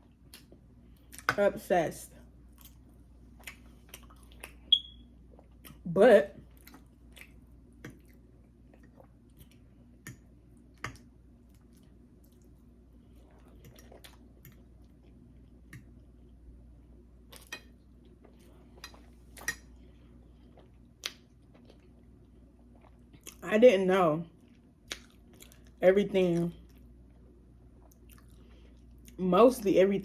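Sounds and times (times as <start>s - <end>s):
person chewing soft food: 0.0s - 1.3s, 2.3s - 5.8s, 6.4s - 23.4s, 24.4s - 25.8s, 26.6s - 29.2s.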